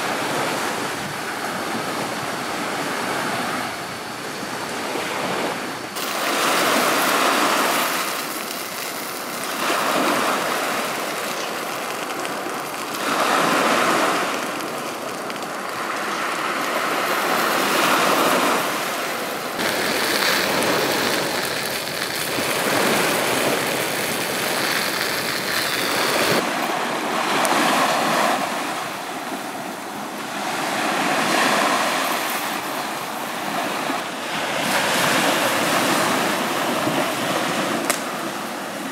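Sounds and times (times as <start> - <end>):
small waves breaking on sand: 0.0 - 38.9.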